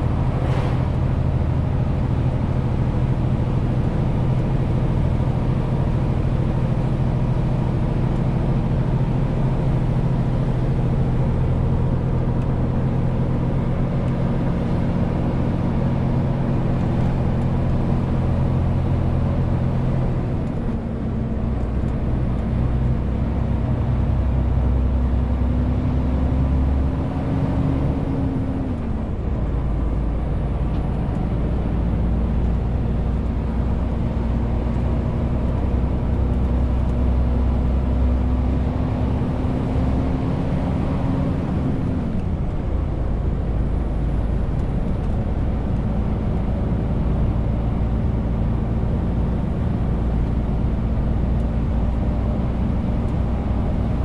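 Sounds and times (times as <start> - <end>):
diesel truck engine under load: 0.0 - 54.0.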